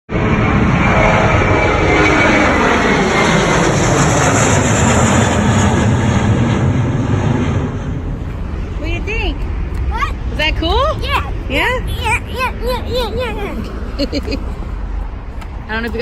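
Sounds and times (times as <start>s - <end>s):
jet airliner taking off: 0.1s - 15.7s.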